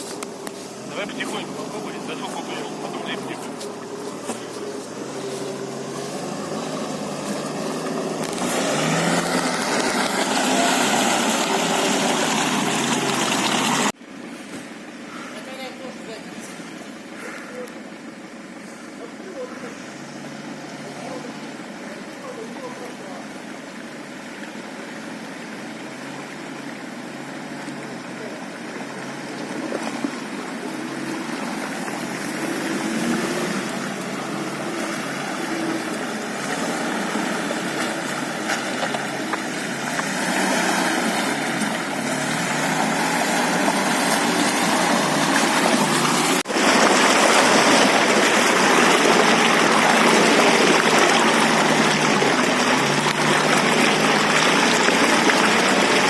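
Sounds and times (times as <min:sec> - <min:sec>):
van engine running under load: 0:00.0 - 0:15.4, 0:16.6 - 0:56.0.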